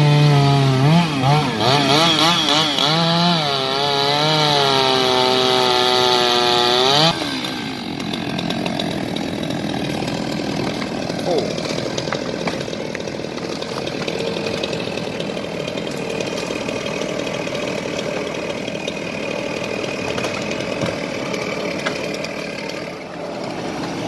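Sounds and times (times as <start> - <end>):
chainsaw engine running: 0.0 - 24.0.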